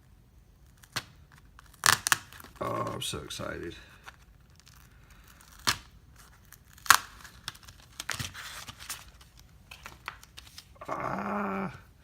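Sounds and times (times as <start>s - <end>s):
package wrapping crinkling: 0.6s - 10.8s.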